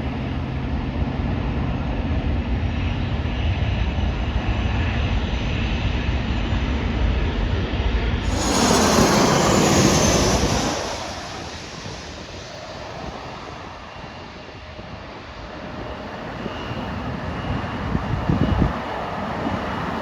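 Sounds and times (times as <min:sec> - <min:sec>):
jet airliner engine roar: 0:00.0 - 0:20.0.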